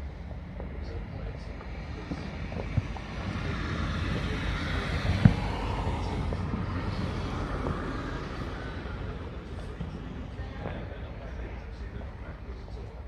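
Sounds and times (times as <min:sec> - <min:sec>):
broad rumble: 0:00.0 - 0:13.0
distant fireworks bangs: 0:00.0 - 0:13.0.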